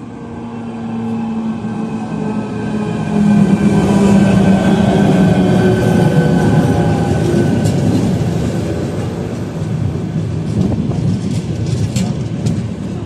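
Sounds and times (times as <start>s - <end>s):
train rolling rumble: 0.0s - 13.0s.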